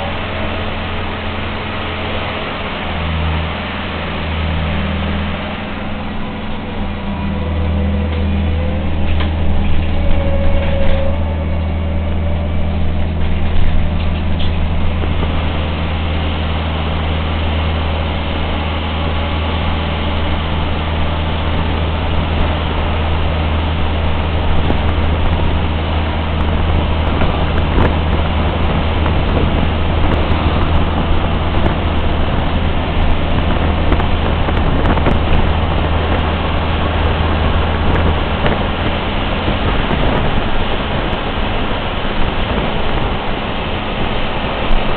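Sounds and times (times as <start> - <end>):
road and body rumble: 0.0 - 44.9
short rising whine: 0.0 - 44.9
trolleybus motor hum: 0.0 - 44.9.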